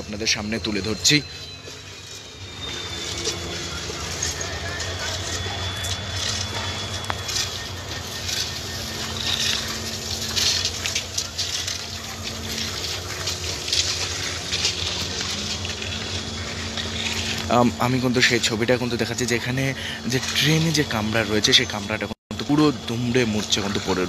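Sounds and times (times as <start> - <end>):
low engine-like hum: 0.0 - 24.0.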